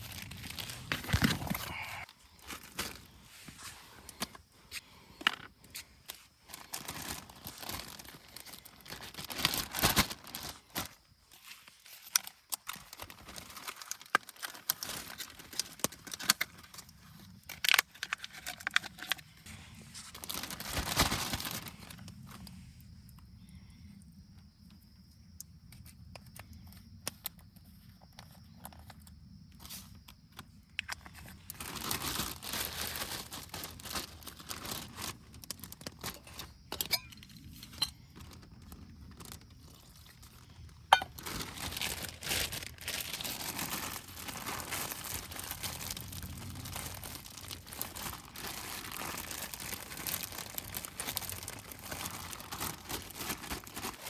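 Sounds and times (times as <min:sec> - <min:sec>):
crinkling and rustling handling noise: 0:00.0 - 0:54.0.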